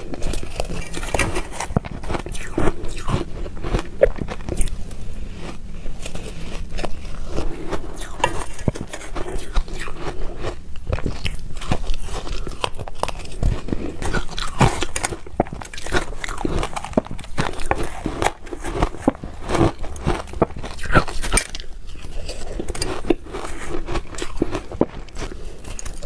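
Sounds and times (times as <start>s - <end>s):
ice crunching while chewed: 0.0s - 26.0s.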